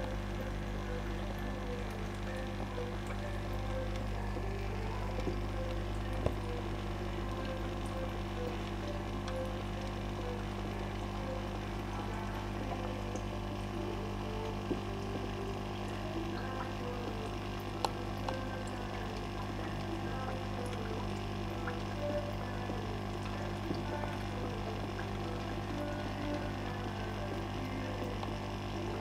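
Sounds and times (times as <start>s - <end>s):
aquarium filter pump humming: 0.0s - 29.0s.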